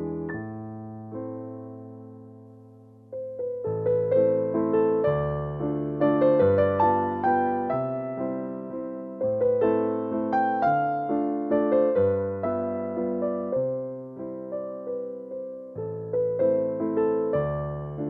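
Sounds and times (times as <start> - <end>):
calm piano tune: 0.0 - 18.0.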